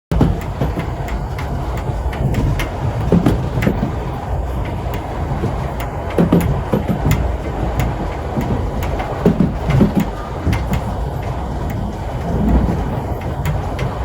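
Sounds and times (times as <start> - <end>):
steam train rumbling on rails: 0.1 - 14.0
wheels clicking and knocking: 0.1 - 14.0.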